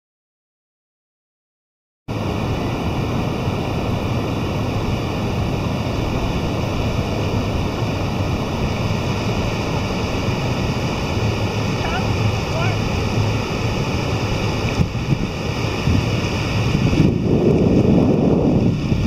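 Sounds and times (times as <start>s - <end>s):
surf breaking on rocks: 2.1s - 19.0s
wind on microphone: 2.1s - 19.0s.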